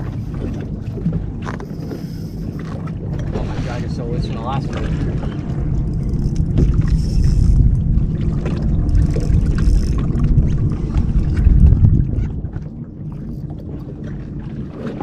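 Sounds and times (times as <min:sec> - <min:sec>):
water washing against boat hull: 0:00.0 - 0:15.0
wind rumbling on microphone: 0:00.0 - 0:15.0.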